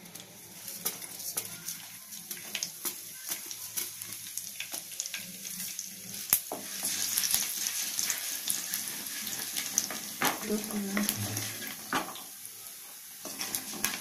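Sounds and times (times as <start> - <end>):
seeds sizzling in hot oil: 0.0 - 14.0.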